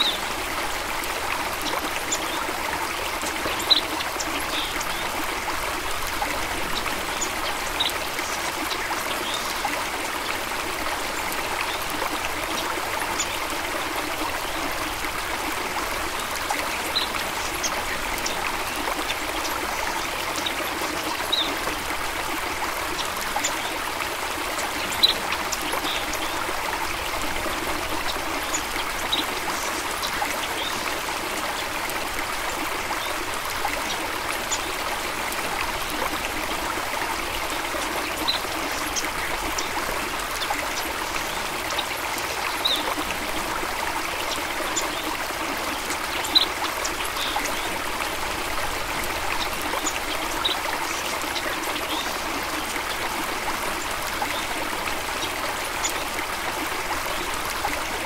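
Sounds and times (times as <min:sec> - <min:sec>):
stream trickling and babbling: 0:00.0 - 0:58.0.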